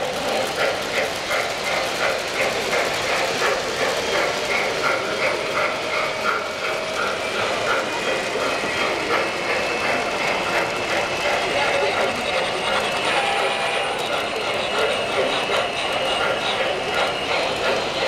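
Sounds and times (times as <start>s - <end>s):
model train wheels clicking: 0.0s - 18.0s.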